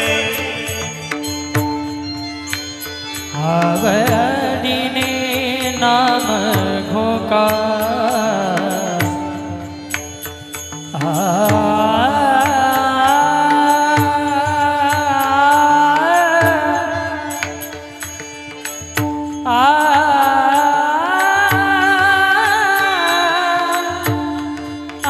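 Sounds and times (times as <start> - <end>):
percussion strokes: 0.0 - 25.0
person singing devotional song: 0.0 - 25.0.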